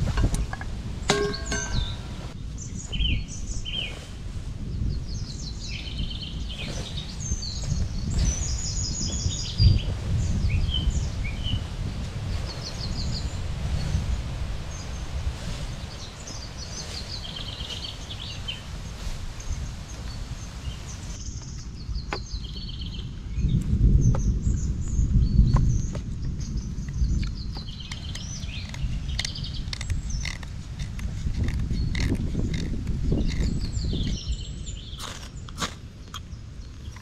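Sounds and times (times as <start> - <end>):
steady low rumble: 0.0 - 37.0
songbirds chirping and trilling: 0.2 - 37.0.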